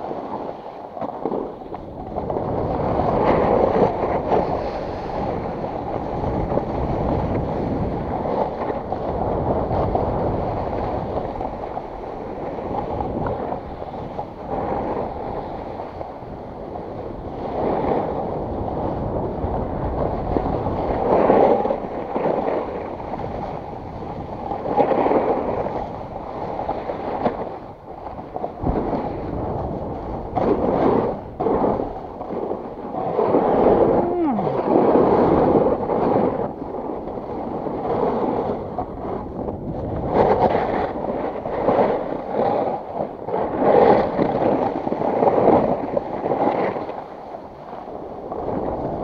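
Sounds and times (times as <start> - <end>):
snowboard carving over snow: 0.0 - 49.0
wind rushing over microphone: 0.0 - 49.0.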